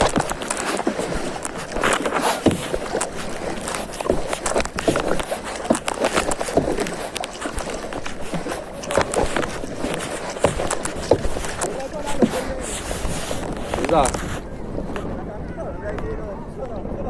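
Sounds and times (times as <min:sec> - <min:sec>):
paddle splashing in water: 0:00.0 - 0:15.1.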